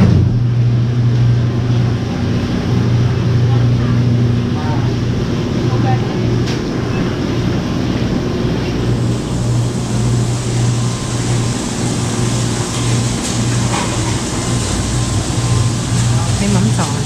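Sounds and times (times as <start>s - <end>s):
grocery store background noise: 0.0s - 17.0s
refrigerated cases humming: 0.0s - 17.0s.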